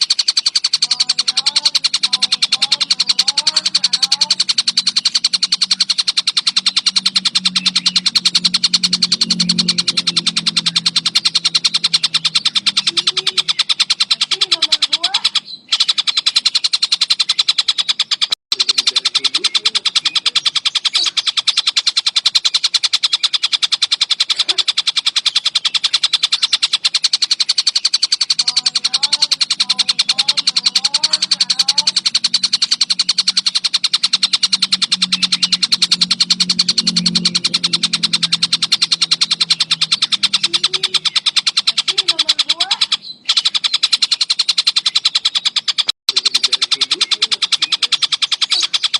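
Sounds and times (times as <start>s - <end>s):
kingfisher chattering rattle: 0.0s - 48.9s.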